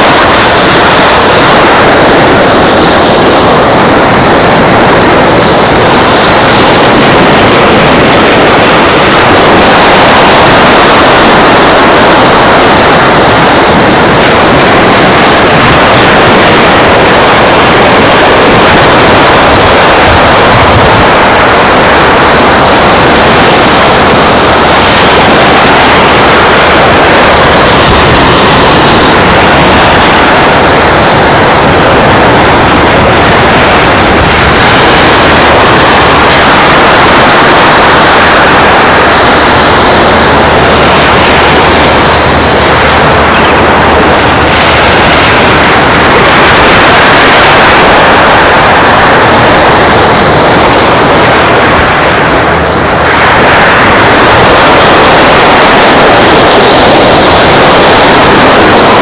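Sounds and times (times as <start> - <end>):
high wind hiss: 0.0 - 59.0
strong wind on microphone: 0.0 - 59.0.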